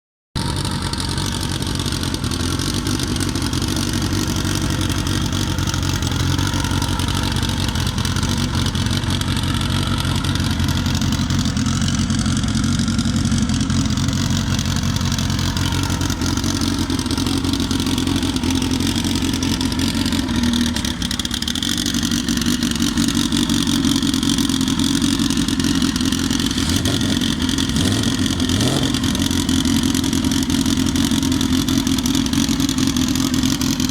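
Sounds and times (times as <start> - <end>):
race car engine running: 0.4 - 33.9.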